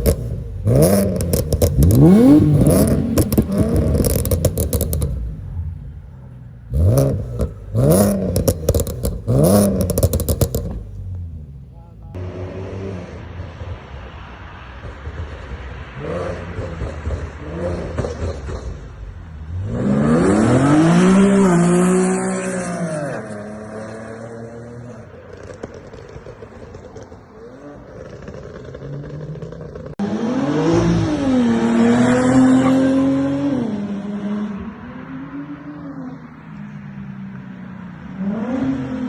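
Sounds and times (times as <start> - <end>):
car engine idling and revving: 0.0 - 39.0.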